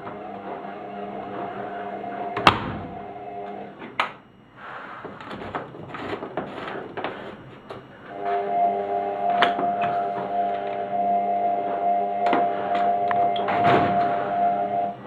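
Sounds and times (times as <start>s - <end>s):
clunks and clicks: 0.0s - 4.3s, 5.0s - 8.5s, 9.3s - 10.9s, 11.6s - 15.0s
washing machine humming: 0.0s - 15.0s.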